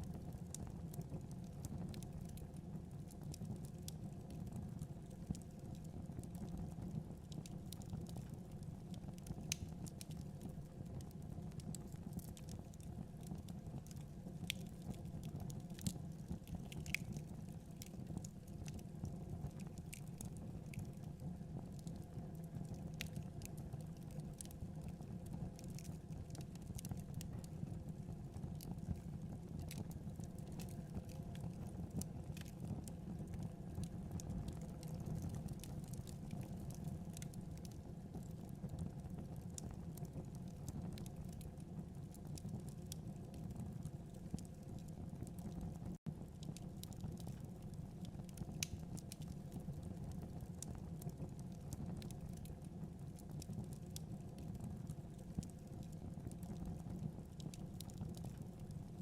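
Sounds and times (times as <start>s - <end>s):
wood fire burning and crackling: 0.0s - 59.0s.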